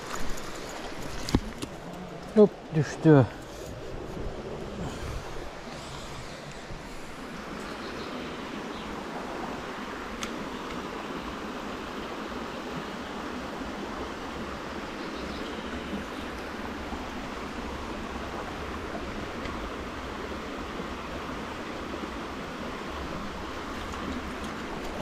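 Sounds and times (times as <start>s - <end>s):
stream water flowing: 0.0s - 25.0s.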